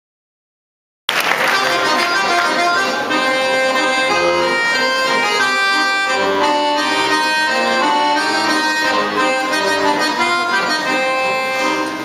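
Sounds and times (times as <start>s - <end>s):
accordion melody: 1.2s - 12.0s
band playing live: 1.2s - 12.0s.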